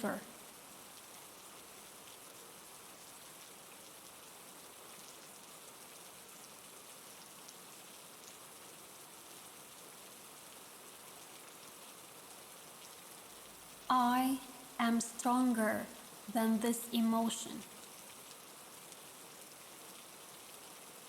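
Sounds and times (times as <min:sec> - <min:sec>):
rain drop ticks: 0:00.0 - 0:08.4, 0:11.0 - 0:20.8
soft rain falling: 0:00.0 - 0:21.0.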